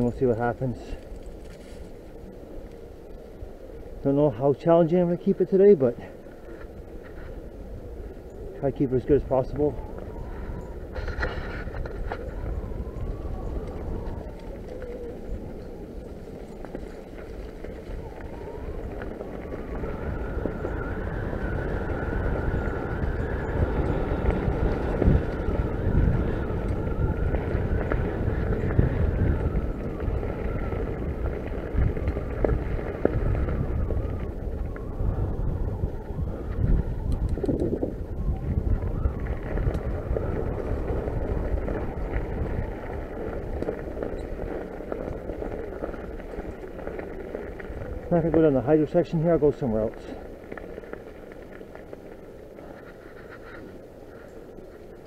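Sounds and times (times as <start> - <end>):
bike drivetrain rattle: 0.0 - 55.0
bike tyre rumble on dirt: 0.0 - 55.0
wind on microphone: 6.4 - 55.0.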